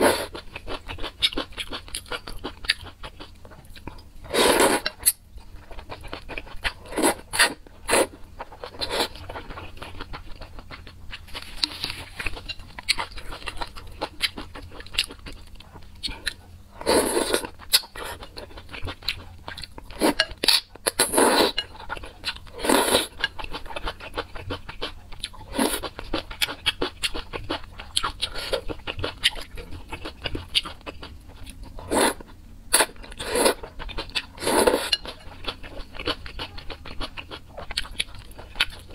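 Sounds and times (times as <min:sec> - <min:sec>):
soft wet chewing: 0:00.0 - 0:38.9.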